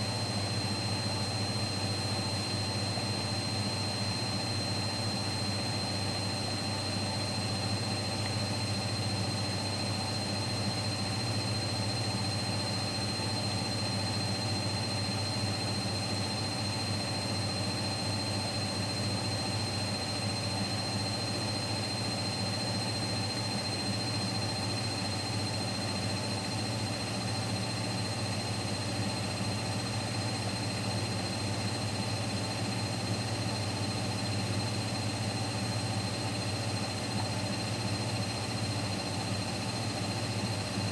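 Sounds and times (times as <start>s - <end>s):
washing machine spinning hum: 0.0s - 40.9s.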